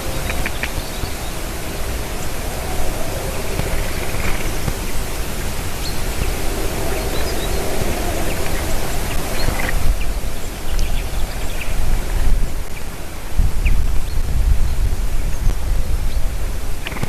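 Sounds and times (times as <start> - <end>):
rushing wind: 0.0 - 17.0.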